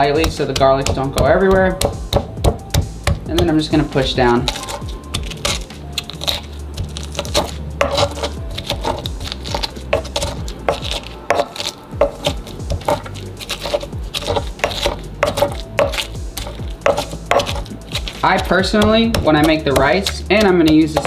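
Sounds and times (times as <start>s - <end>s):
pestle pounding in stone mortar: 0.0s - 21.0s.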